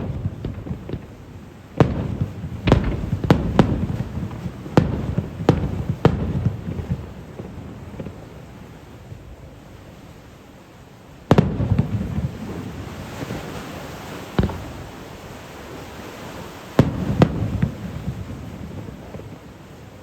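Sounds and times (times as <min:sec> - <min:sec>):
fireworks bangs: 0:00.0 - 0:08.9, 0:11.3 - 0:19.6.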